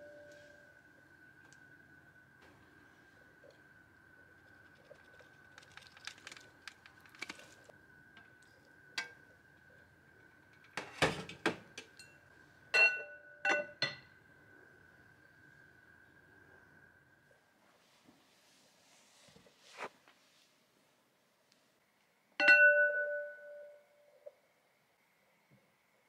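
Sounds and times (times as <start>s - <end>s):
faint high-pitched hum: 0.0s - 18.2s, 20.9s - 26.0s.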